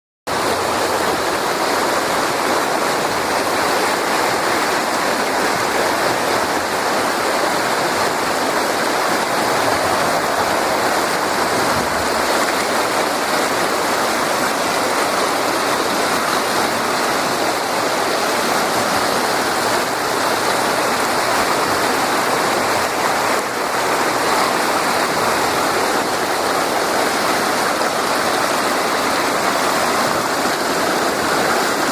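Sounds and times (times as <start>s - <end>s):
water rushing over spillway: 0.3s - 31.9s.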